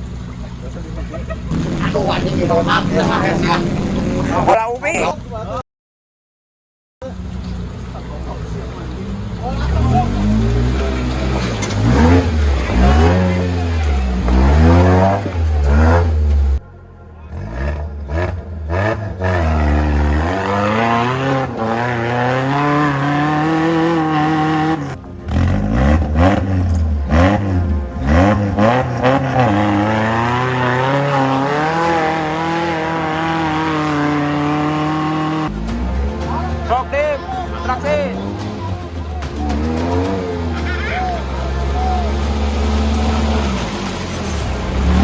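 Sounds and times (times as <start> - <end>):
engine revving: 0.0 - 5.4, 7.0 - 45.0.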